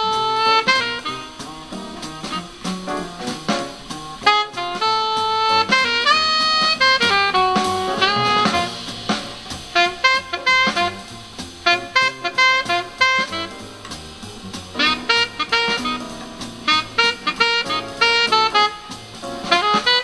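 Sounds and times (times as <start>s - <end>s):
drum kit: 0.0s - 20.0s
jazz saxophone: 0.0s - 20.0s.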